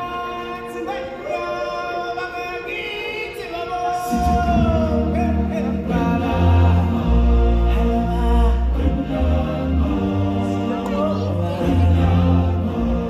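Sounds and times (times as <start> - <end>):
choir-like singing: 0.0 - 13.0.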